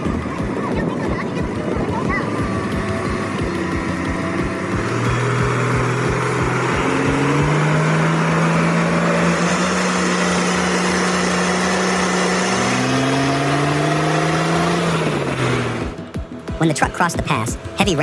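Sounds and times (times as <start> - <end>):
heavy truck engine under load: 0.0 - 16.1.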